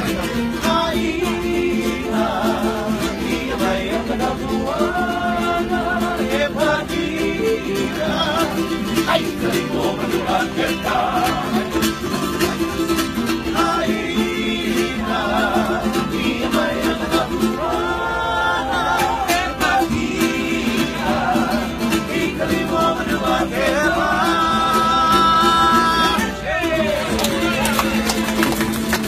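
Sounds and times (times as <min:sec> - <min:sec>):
group singing: 0:00.0 - 0:28.0
strummed string instrument: 0:00.0 - 0:29.0.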